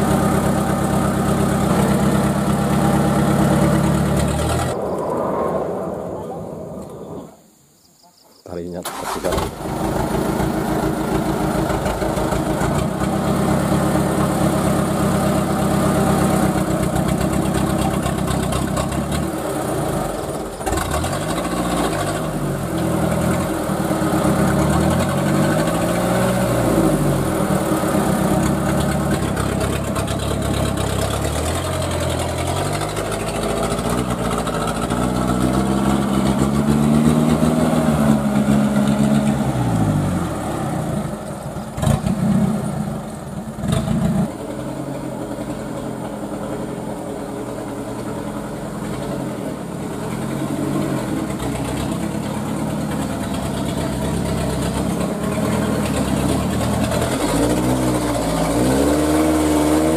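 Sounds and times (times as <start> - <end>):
truck engine revving: 0.0 - 7.4, 8.9 - 59.9.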